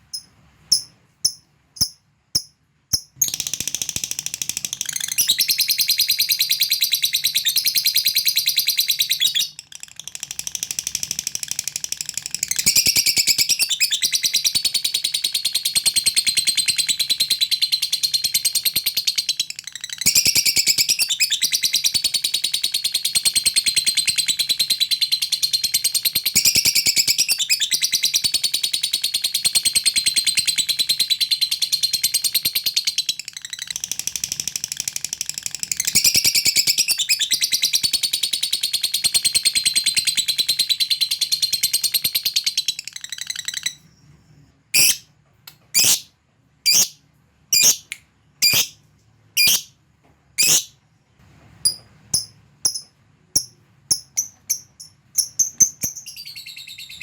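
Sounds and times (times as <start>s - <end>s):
lovebird chirping and trilling: 0.0s - 43.8s, 44.7s - 45.1s, 45.7s - 48.8s, 49.4s - 49.7s, 50.4s - 50.8s, 51.6s - 57.0s.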